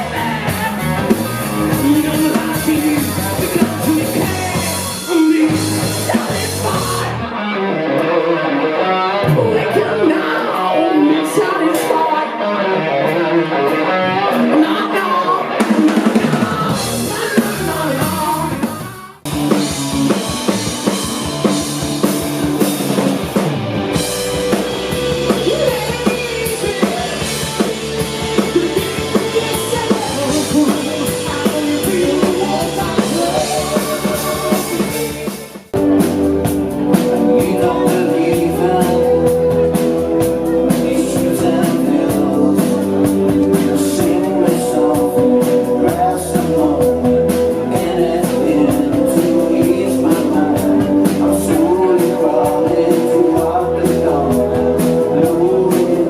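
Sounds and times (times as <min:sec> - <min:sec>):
drum kit: 0:00.0 - 0:07.2, 0:09.2 - 0:10.7, 0:14.3 - 0:56.0
person singing: 0:00.0 - 0:23.0, 0:23.9 - 0:56.0
electric guitar: 0:00.0 - 0:56.0.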